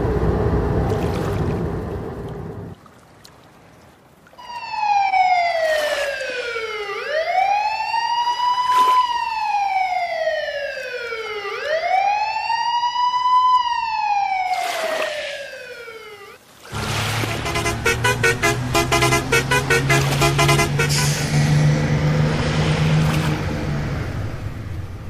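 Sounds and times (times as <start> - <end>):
police siren wailing: 4.4 - 25.0.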